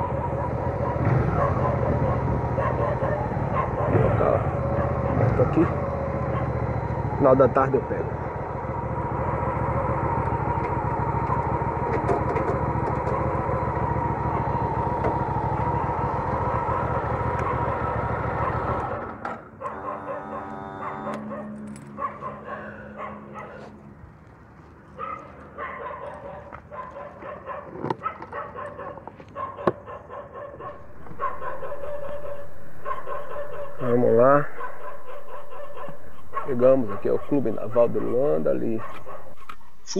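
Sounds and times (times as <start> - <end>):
motorcycle engine running: 0.0 - 23.8, 30.6 - 39.9
drawn-out whining tone: 0.0 - 25.6, 30.5 - 39.9.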